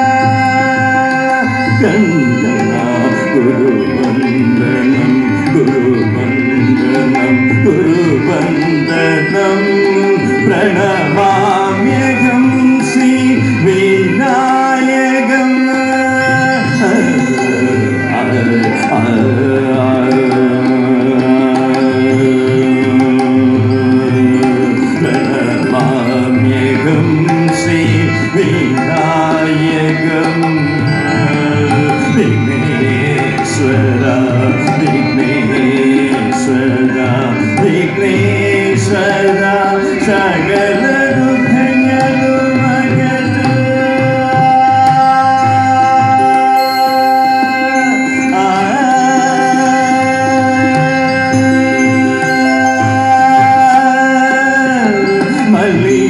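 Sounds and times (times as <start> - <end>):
man singing into a microphone: 0.0 - 56.0
percussion: 0.0 - 56.0.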